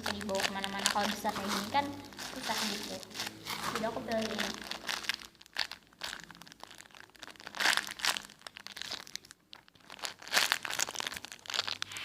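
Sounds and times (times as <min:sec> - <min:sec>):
foam squishy squeezed and rustling: 0:00.0 - 0:12.0.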